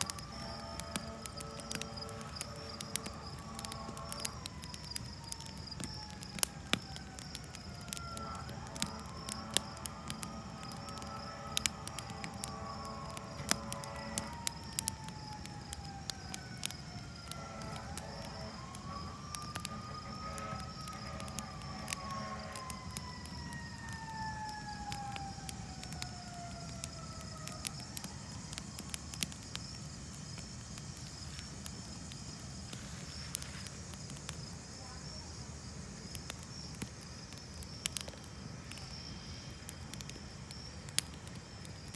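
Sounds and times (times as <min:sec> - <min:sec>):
distant siren wailing: 0:00.0 - 0:34.3, 0:35.9 - 0:41.9
campfire crackling and popping: 0:00.0 - 0:41.9.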